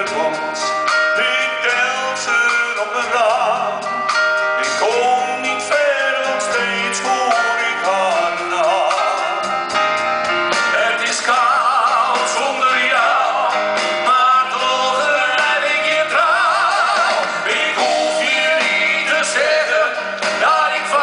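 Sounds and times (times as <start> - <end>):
man singing with vibrato: 0.0 - 9.8, 10.5 - 21.0
band with guitar: 0.0 - 21.0.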